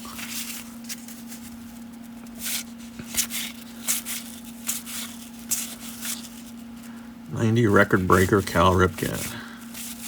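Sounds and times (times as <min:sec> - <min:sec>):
cards rustling and sliding: 0:00.0 - 0:07.0, 0:07.6 - 0:10.0.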